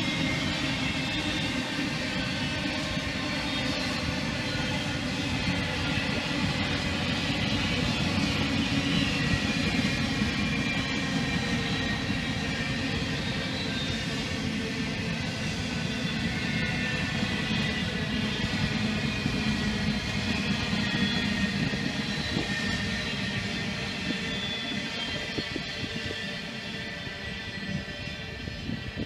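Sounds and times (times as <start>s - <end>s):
freight train rumbling past: 0.0s - 29.0s
high ringing from train wheels: 0.0s - 29.0s.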